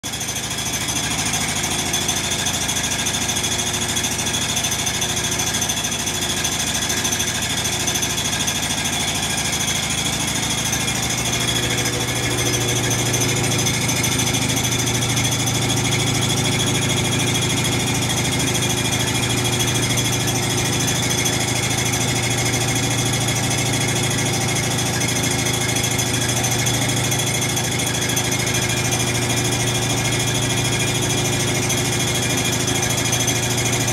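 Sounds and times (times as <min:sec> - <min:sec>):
washing machine spinning: 0:00.0 - 0:33.9.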